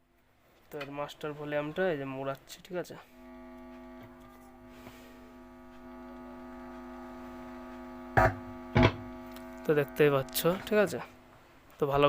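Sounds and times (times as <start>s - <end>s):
amplifier speaker electrical hum: 0.6s - 12.0s.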